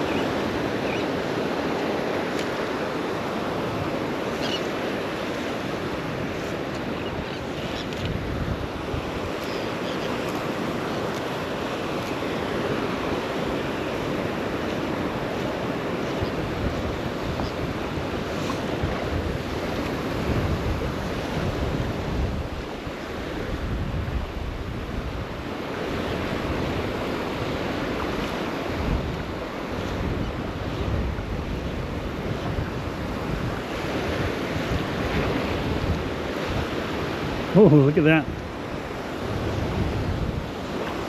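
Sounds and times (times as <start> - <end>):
surf washing on a beach: 0.0 - 41.0
wind buffeting microphone: 5.2 - 41.0.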